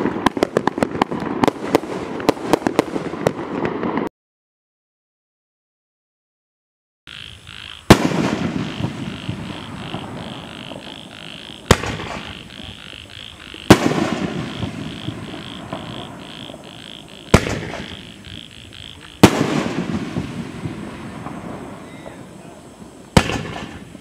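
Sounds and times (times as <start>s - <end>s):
firework shells booming: 0.0s - 4.1s, 7.5s - 24.0s.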